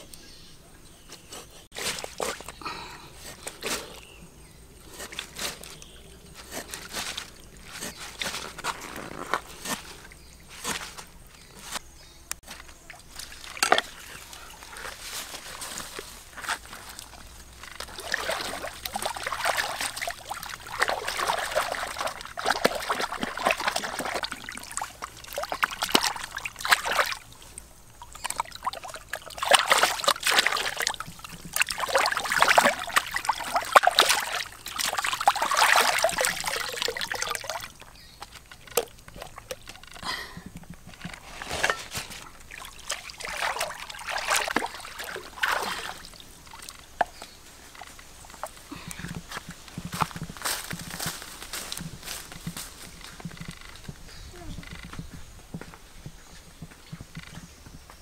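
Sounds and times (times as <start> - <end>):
water splashing and sloshing: 0.9 - 55.6.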